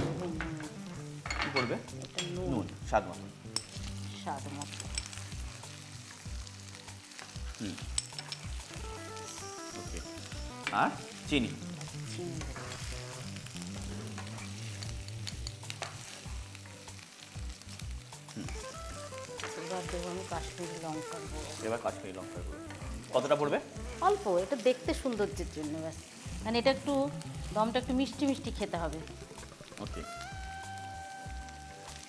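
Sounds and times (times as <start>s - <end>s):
curry sizzling in oil: 0.0s - 32.0s.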